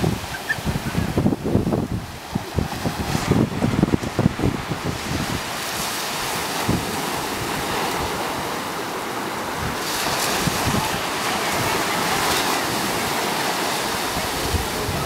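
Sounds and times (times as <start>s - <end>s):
sea surf washing: 0.0s - 15.0s
wind buffeting microphone: 0.0s - 15.0s.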